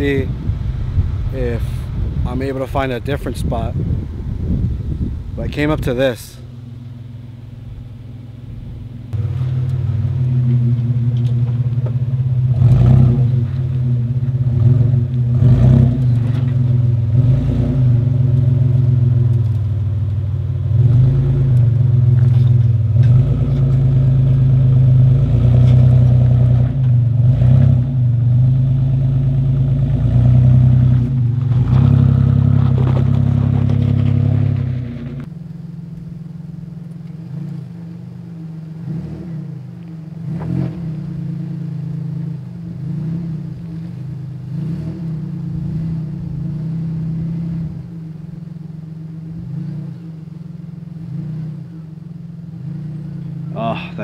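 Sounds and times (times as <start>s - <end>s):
truck engine running at low revs: 0.0s - 54.0s.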